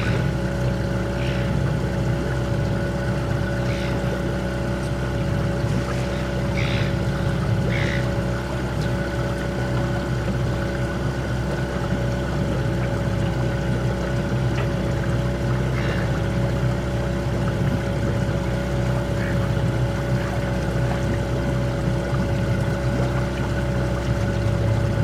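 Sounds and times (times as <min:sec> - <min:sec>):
outboard motor drone: 0:00.0 - 0:25.0.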